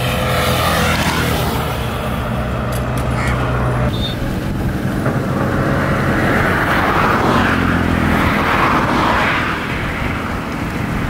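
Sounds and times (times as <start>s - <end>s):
vehicle driving past: 0.0s - 11.0s.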